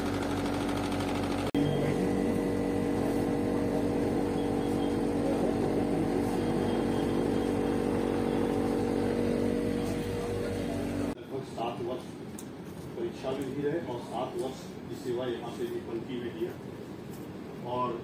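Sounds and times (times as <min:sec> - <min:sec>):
air conditioner humming: 0:00.0 - 0:18.0.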